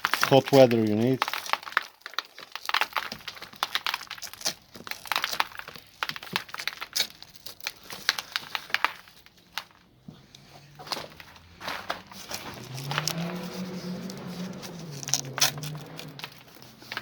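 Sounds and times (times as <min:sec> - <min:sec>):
broken glass crackling and crunching: 0:00.0 - 0:10.0, 0:10.7 - 0:17.0.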